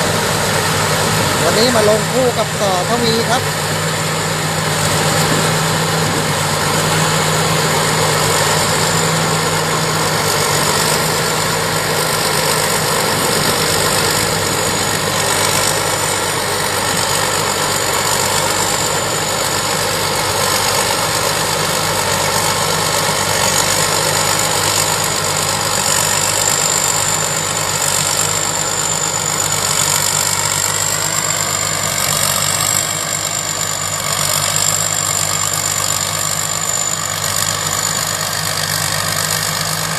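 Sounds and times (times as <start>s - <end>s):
combine harvester engine running: 0.0s - 39.9s
high whine: 0.0s - 39.9s.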